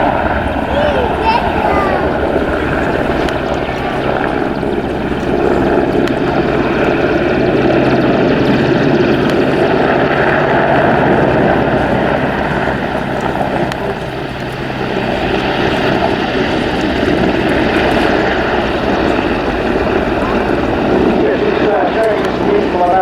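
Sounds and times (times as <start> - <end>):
helicopter flying past: 0.0 - 23.0.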